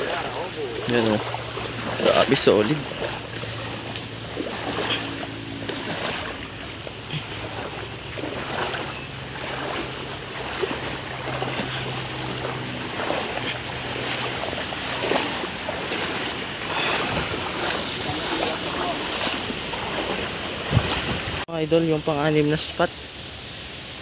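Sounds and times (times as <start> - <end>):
low hum: 0.0 - 21.4
wind buffeting microphone: 0.0 - 21.4
feet splashing through water: 0.0 - 21.5.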